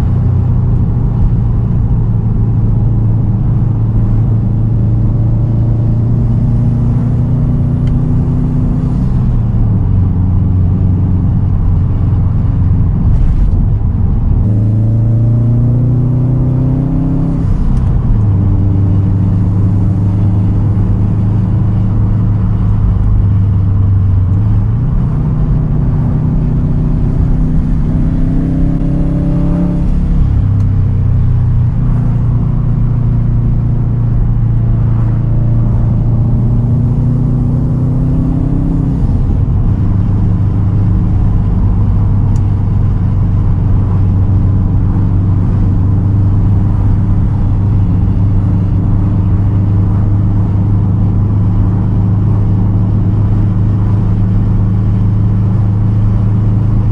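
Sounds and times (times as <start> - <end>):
car engine revving while driving: 0.0 - 56.9.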